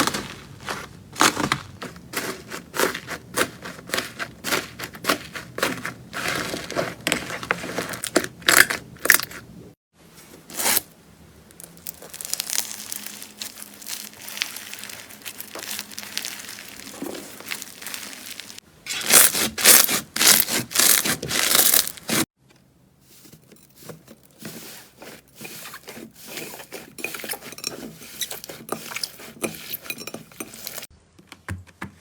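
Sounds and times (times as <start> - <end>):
slime squishing rustle: 0.0 - 10.9, 11.5 - 22.3, 23.0 - 30.9.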